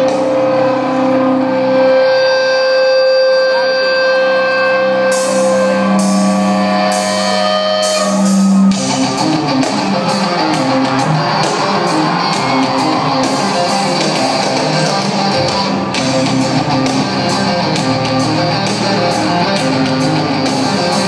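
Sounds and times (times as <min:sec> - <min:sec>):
held guitar chords: 0:00.0 - 0:21.0
rock band playing live: 0:00.0 - 0:21.0.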